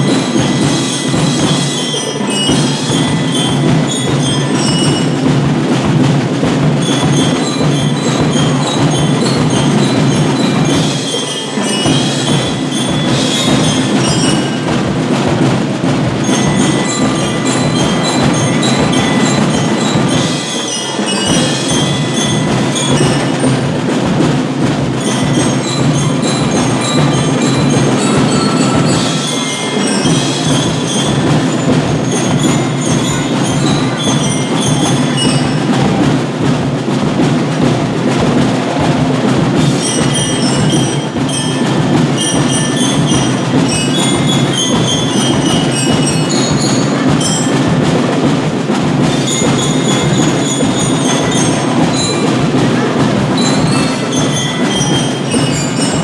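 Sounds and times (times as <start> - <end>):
drums beating: 0.0 - 56.0
glockenspiel notes: 0.0 - 56.0
marching band playing: 0.0 - 56.0.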